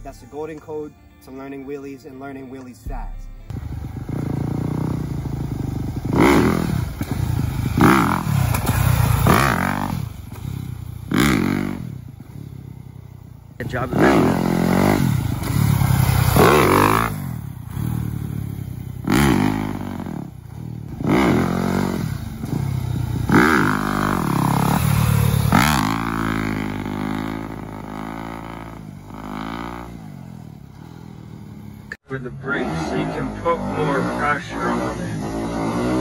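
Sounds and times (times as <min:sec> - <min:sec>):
dirt bike engine revving: 0:03.5 - 0:36.0.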